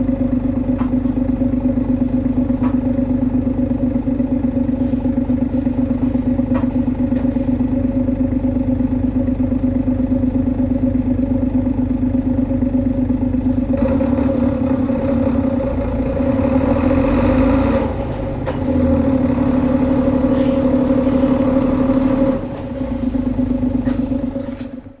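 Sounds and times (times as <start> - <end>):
bus engine droning whine: 0.0 - 25.0.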